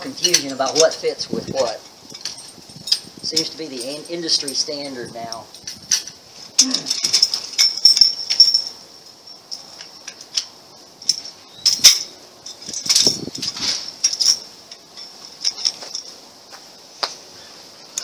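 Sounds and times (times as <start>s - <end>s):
tent pole sections clicking: 0.0s - 16.2s.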